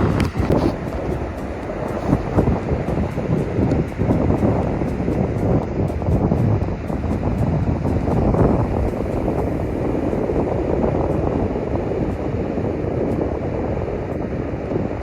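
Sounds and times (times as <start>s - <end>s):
sea surf rushing: 0.0s - 15.0s
wind buffeting microphone: 0.0s - 15.0s.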